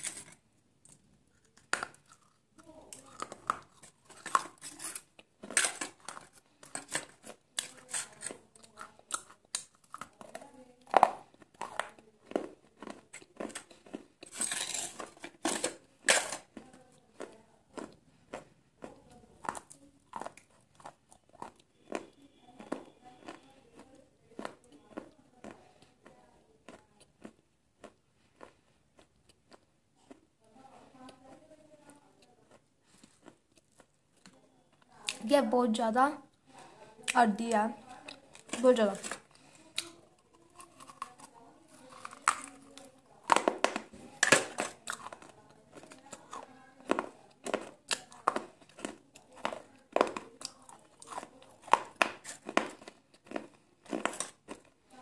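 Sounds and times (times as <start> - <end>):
crunchy snack chewing: 0.0 - 30.3, 31.8 - 35.2, 37.9 - 54.9.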